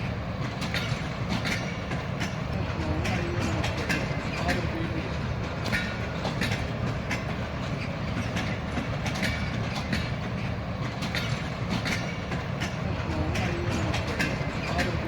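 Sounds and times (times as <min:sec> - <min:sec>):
train coaches rumbling: 0:00.0 - 0:15.0
wheels clicking over rail joints: 0:00.0 - 0:15.0.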